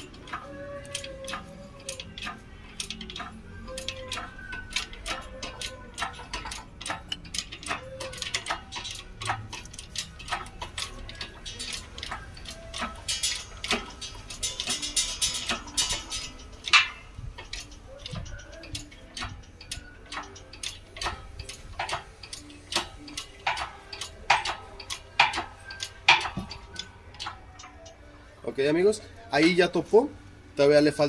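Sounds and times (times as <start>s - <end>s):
press clicking and knocking: 0.0s - 27.9s.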